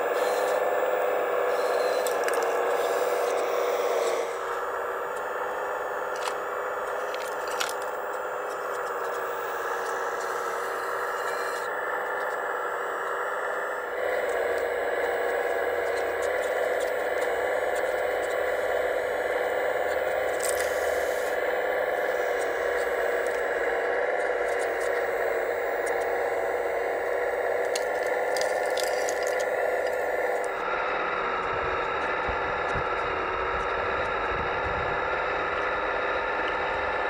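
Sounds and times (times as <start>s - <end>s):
hydraulic pump whirring: 0.0s - 37.0s.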